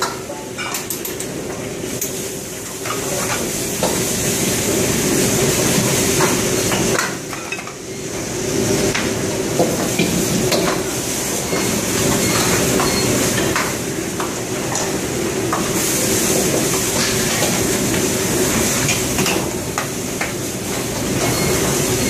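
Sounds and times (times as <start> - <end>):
gas burners and extraction running: 0.0 - 22.0
food sizzling: 1.7 - 22.0.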